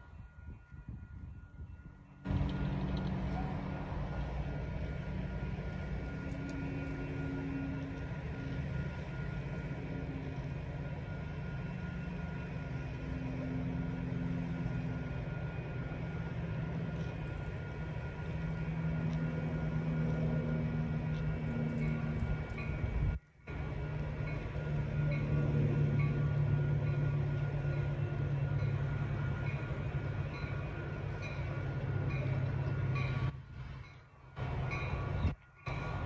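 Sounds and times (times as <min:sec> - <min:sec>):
large engine idling: 0:02.2 - 0:36.0.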